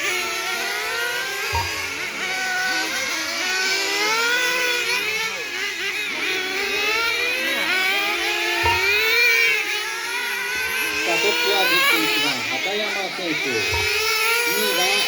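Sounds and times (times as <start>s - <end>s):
rc car engines whining: 0.0s - 15.0s.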